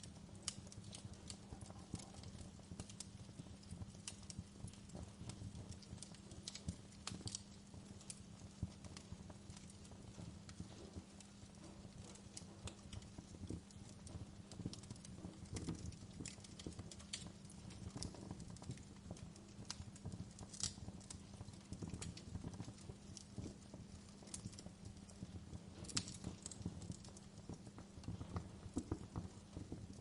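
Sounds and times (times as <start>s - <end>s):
fire snaps and pops: 0.0s - 30.0s
low rumble of burning: 0.0s - 30.0s
wood fire crackling: 0.0s - 30.0s.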